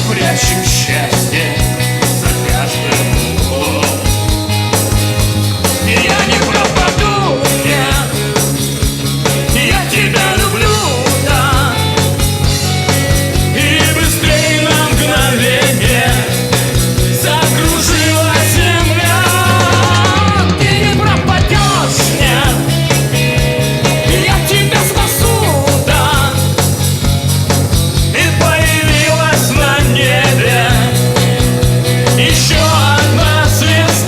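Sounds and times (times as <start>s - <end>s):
person singing: 0.0s - 4.4s, 5.7s - 8.4s, 9.3s - 12.2s, 13.4s - 23.0s, 23.8s - 26.6s, 28.1s - 34.0s
bass: 0.0s - 34.0s
steady drum beat: 0.0s - 34.0s.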